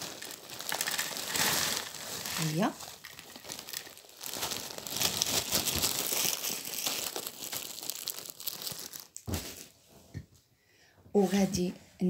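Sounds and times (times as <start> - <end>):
dried leaves crackling in plastic bag: 0.0 - 9.7.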